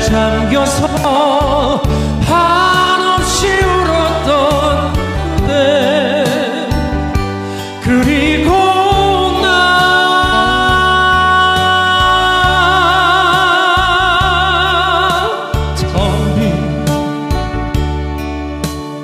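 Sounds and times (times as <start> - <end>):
man singing high note with vibrato: 0.0 - 17.4
band music with steady beat: 0.0 - 19.0.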